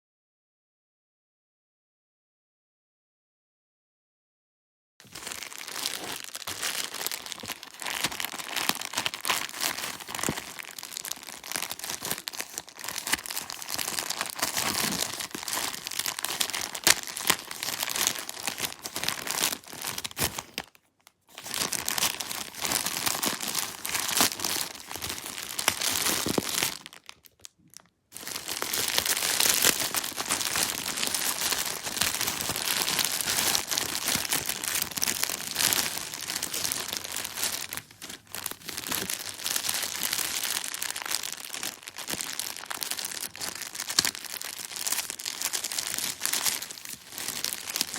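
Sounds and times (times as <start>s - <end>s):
packaging tearing: 5.0s - 27.5s, 28.2s - 47.9s
packaging crinkling and rustling: 5.0s - 47.9s.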